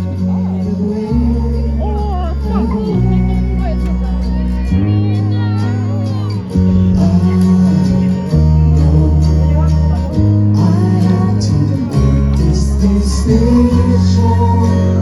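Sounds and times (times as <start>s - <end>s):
heavy bass line: 0.0s - 15.0s
singing: 0.1s - 15.0s.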